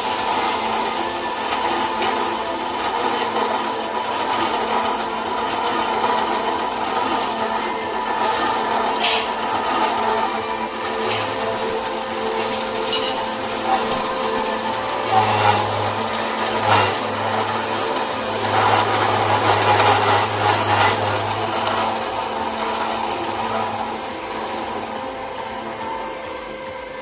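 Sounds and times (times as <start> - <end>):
metal-cutting machine running: 0.0 - 27.0.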